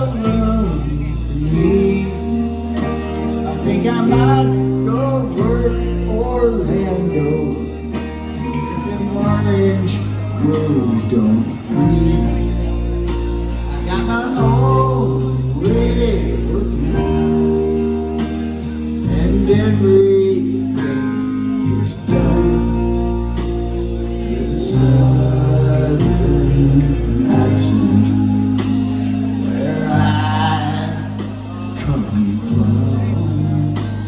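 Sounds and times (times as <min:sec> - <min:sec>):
person singing: 0:00.0 - 0:34.0
rock band playing a slow ballad: 0:00.0 - 0:34.0.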